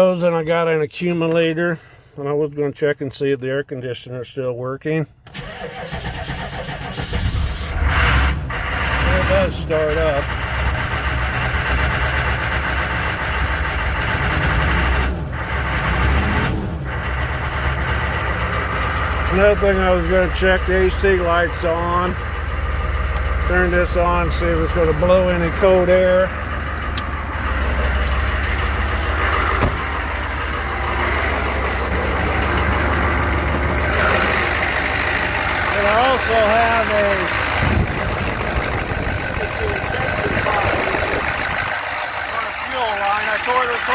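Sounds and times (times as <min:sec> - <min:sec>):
diesel truck engine idling: 0:05.4 - 0:43.9.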